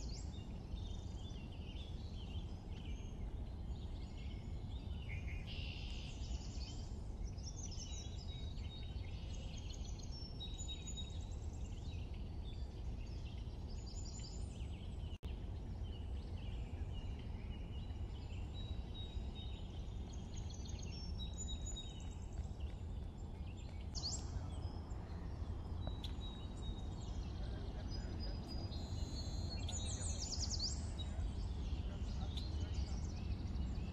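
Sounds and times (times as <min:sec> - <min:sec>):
birds chirping: 0:00.0 - 0:33.9
low background rumble: 0:00.0 - 0:33.9.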